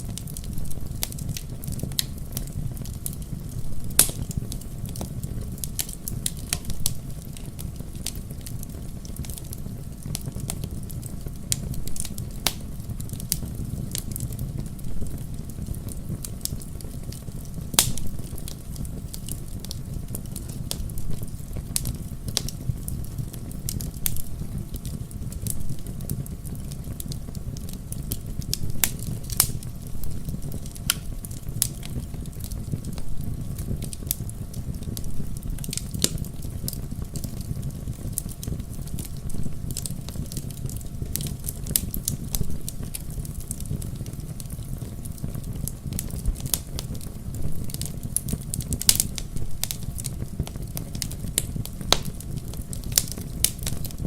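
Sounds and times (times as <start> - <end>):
low rush of burning logs: 0.0 - 54.0
wood fire crackling and popping: 0.0 - 54.0.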